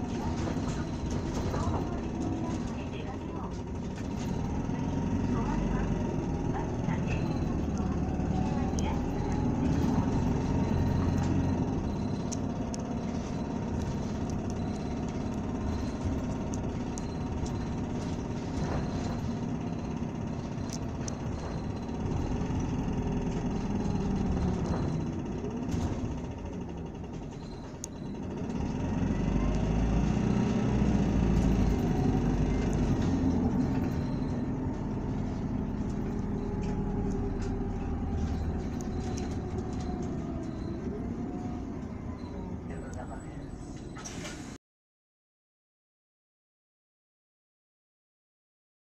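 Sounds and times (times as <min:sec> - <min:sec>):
bus engine droning: 0:00.0 - 0:44.6.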